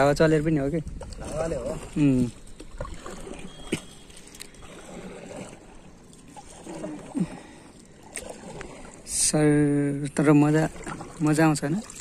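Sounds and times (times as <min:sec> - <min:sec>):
water lapping against boat: 0:00.0 - 0:12.0.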